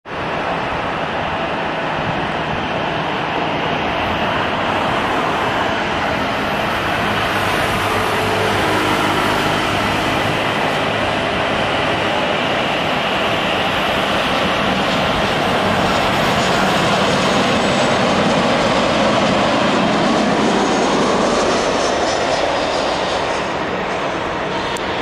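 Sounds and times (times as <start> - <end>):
airliner jet engines rushing: 0.1 - 25.0.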